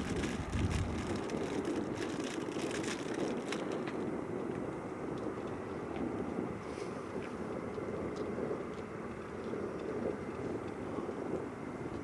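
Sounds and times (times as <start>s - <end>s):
faint crackles: 0.0s - 12.0s
jet engines idling: 0.0s - 12.0s.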